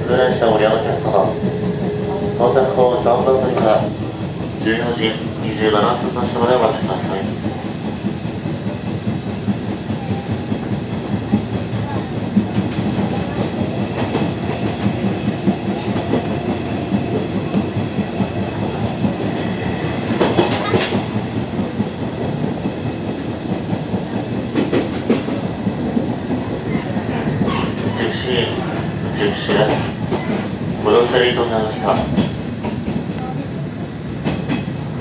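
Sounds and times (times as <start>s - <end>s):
train cabin rumble: 0.0s - 35.0s.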